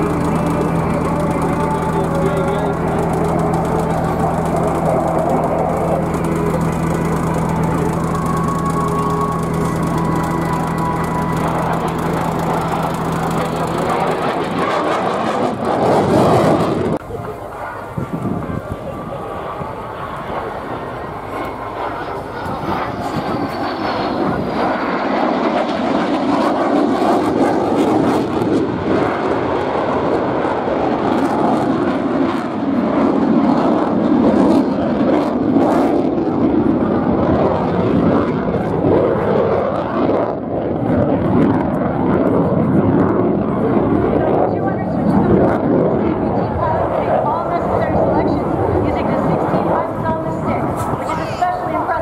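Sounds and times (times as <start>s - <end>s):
faint engine whine: 0.0s - 52.0s
jet engine roar with crackle: 0.0s - 52.0s.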